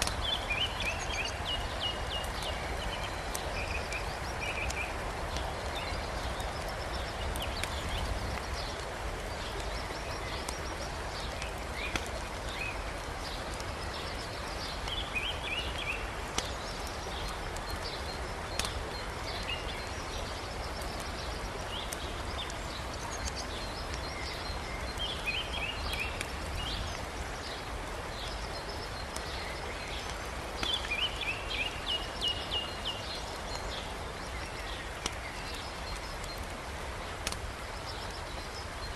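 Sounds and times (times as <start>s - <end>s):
campfire crackling and popping: 0.0s - 38.9s
mountain river rushing: 0.0s - 38.9s.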